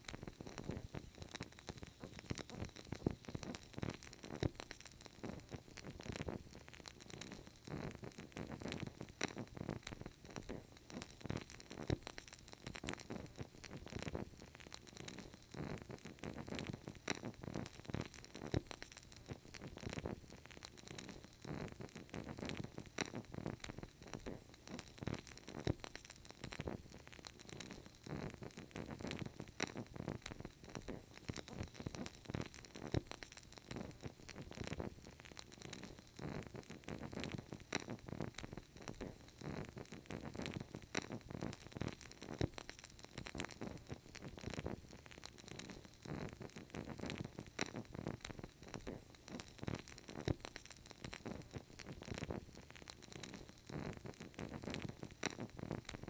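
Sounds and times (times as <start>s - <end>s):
candle flame crackling: 0.0s - 56.0s.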